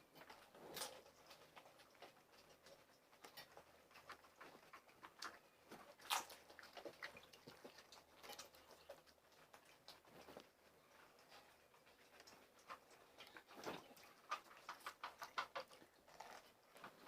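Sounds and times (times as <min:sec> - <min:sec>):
crunching and chewing: 0:00.0 - 0:17.0.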